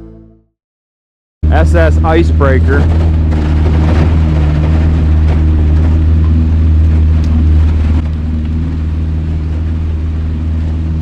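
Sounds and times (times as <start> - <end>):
boat motor humming: 0.0 - 0.5, 1.4 - 11.0.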